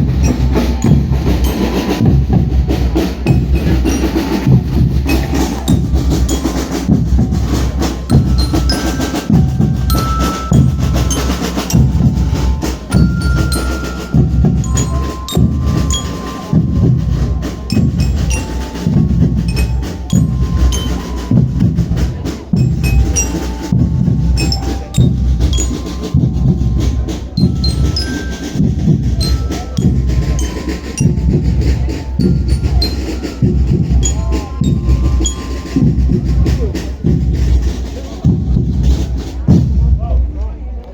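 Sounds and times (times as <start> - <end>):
heavy bass beat: 0.0 - 40.1.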